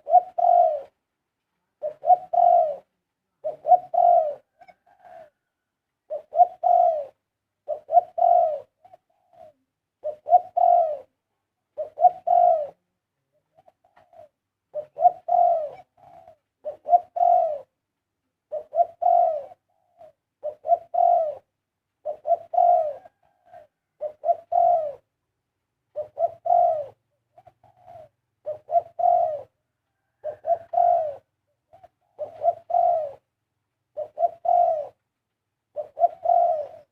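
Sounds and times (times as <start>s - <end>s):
dove cooing: 0.0s - 1.0s, 1.7s - 17.8s, 18.5s - 25.2s, 25.9s - 33.3s, 33.9s - 35.0s, 35.7s - 36.9s.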